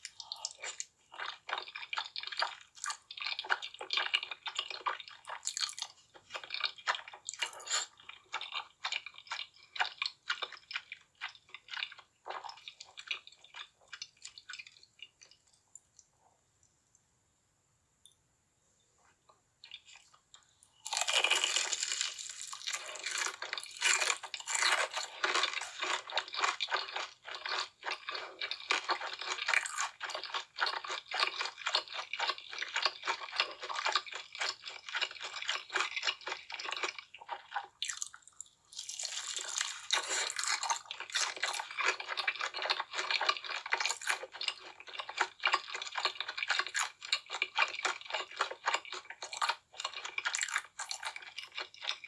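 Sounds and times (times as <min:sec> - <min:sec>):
crunching and chewing fried chicken: 0:00.0 - 0:16.1, 0:19.6 - 0:52.0.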